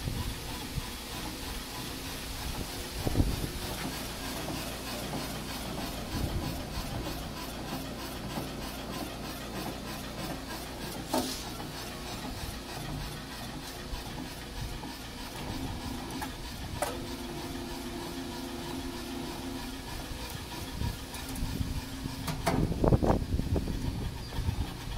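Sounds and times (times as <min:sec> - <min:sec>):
surfacer machine running: 0:00.0 - 0:24.9.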